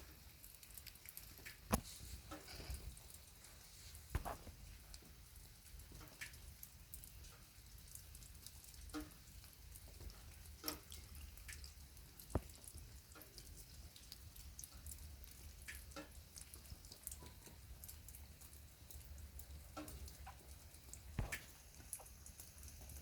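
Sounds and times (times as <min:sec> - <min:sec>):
light rain drops: 0:00.0 - 0:23.0.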